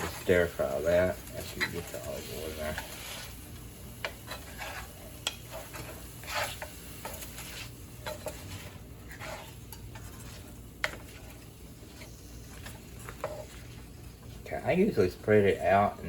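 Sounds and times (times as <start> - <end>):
spoon stirring and scraping: 0.0 - 14.5
chicken sizzling in a pan: 0.0 - 16.0.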